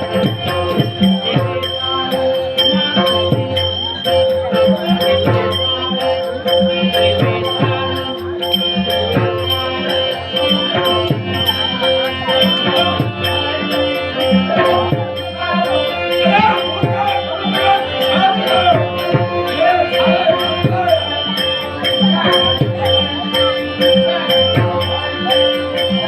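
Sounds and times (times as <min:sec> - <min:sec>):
droning melody: 0:00.0 - 0:26.0
drum strokes: 0:00.0 - 0:26.0
small jingling cymbals: 0:00.0 - 0:26.0.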